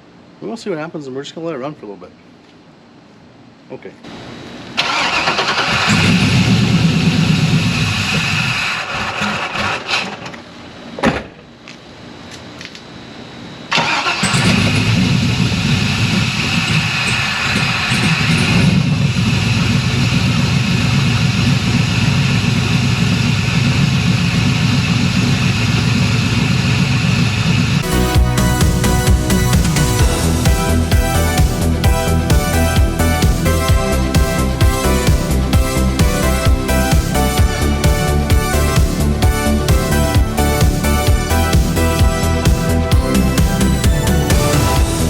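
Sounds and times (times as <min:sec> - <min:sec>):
car engine starting and running: 0:04.8 - 0:10.5, 0:13.7 - 0:45.0.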